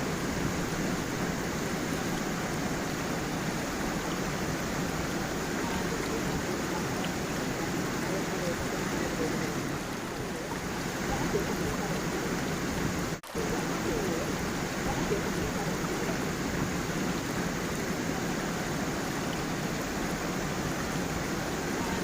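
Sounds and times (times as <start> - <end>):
waterfall and stream flowing: 0.0 - 22.0.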